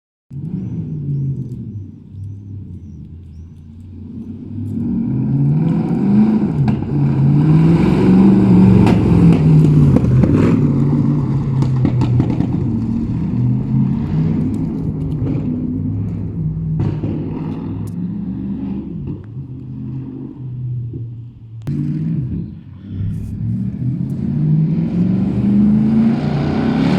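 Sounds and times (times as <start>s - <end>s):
car engine revving: 0.3s - 26.9s.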